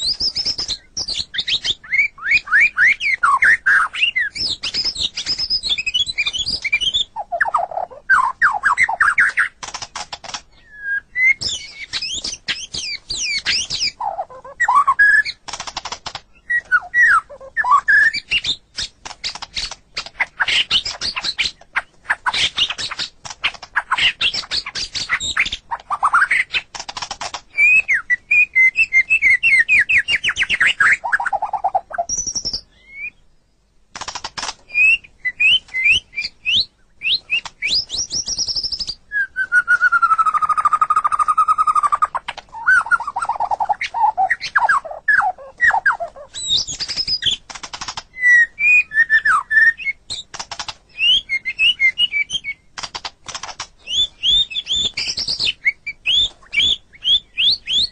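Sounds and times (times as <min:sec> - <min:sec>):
songbird singing varied song: 0:00.0 - 0:26.7, 0:27.5 - 0:33.6, 0:34.7 - 0:53.0, 0:53.8 - 0:57.9.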